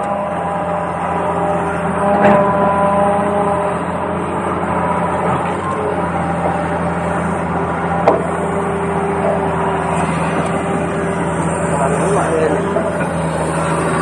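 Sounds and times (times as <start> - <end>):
rough grinding noise: 0.0 - 14.0
toy excavator motor hum: 0.0 - 14.0.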